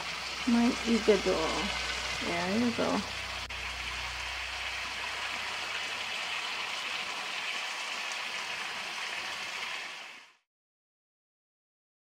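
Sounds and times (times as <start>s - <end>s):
meat sizzling in a pan: 0.0s - 10.4s.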